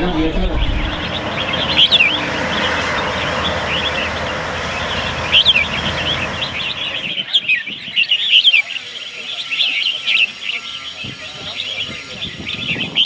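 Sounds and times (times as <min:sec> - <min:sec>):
steady rushing background noise: 0:00.0 - 0:13.0
birds singing whistled phrases: 0:00.5 - 0:13.0.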